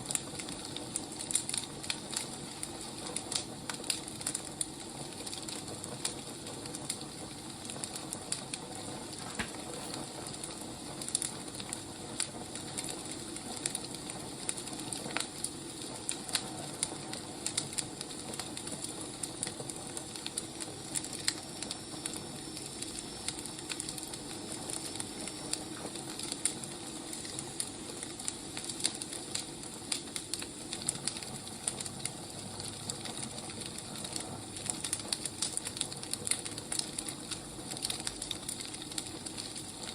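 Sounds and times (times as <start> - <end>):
burning firewood crackling: 0.0 - 39.9.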